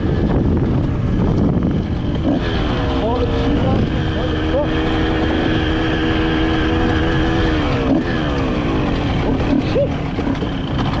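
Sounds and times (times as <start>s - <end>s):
rough wind noise: 0.0s - 11.0s
two-stroke engine at high revs: 0.0s - 11.0s.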